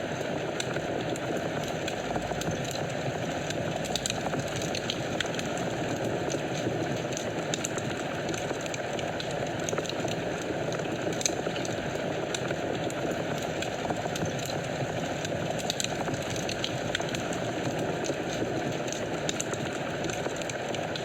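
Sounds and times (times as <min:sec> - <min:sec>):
fire crackling and popping: 0:00.0 - 0:21.0
low roar of flames: 0:00.0 - 0:21.0.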